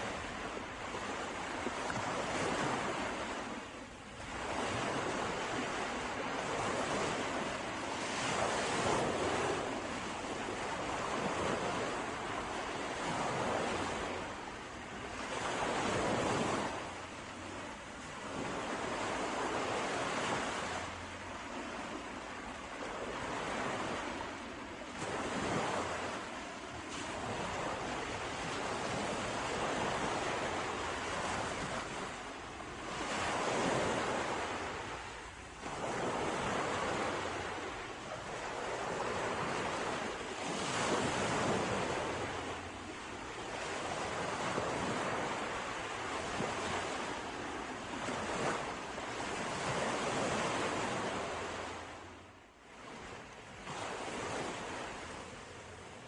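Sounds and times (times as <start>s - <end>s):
sea waves breaking on shore: 0.0s - 56.0s
wind on microphone: 0.0s - 56.0s.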